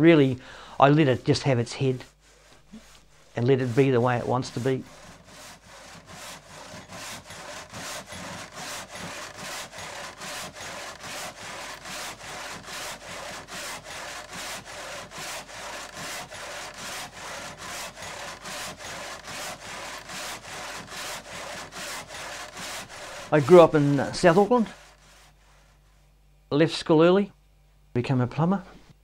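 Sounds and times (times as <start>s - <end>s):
hand saw cutting wood: 2.0s - 25.8s.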